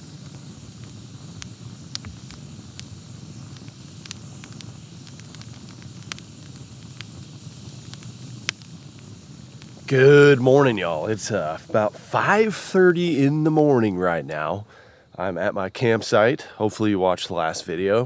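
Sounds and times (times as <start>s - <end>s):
campfire burning: 0.0s - 18.0s
fire crackling pops: 0.0s - 18.0s.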